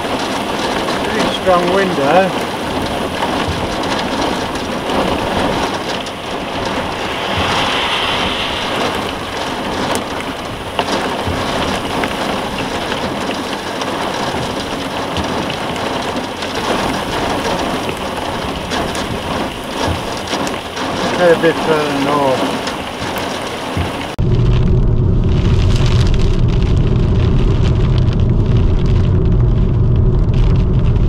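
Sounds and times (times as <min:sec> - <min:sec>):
heavy rain and wind on a car: 0:00.0 - 0:31.0.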